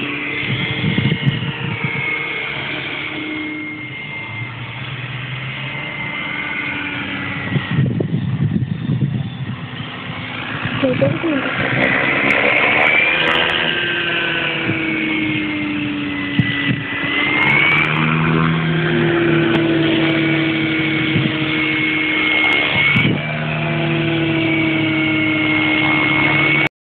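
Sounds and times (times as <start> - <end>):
motor engine running: 0.0 - 26.7.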